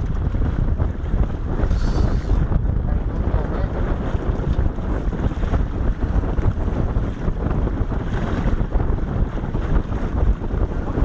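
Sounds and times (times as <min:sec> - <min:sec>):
water washing against boat: 0:00.0 - 0:11.0
wind buffeting microphone: 0:00.0 - 0:11.0.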